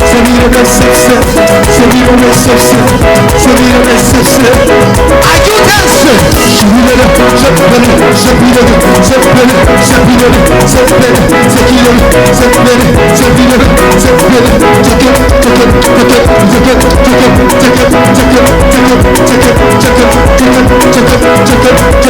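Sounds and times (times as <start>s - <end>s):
band playing upbeat music: 0.0s - 22.0s
drums: 0.0s - 22.0s
heavy bass line: 0.0s - 22.0s
keyboard chords: 0.0s - 22.0s.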